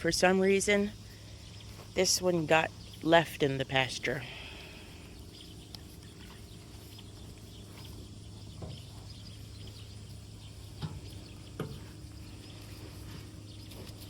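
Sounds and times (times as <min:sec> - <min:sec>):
cattle hoof steps: 0:00.0 - 0:14.0
steady low hum: 0:00.0 - 0:14.0.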